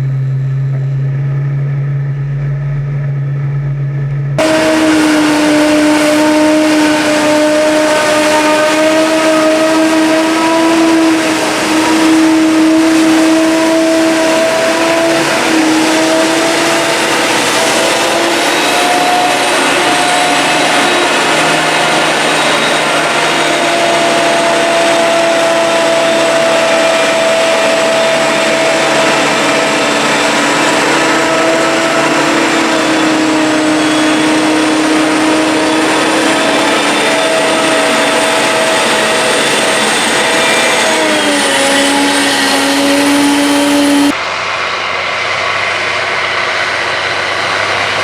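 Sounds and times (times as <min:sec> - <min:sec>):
harvester machine drone with whine: 0:00.0 - 0:48.0.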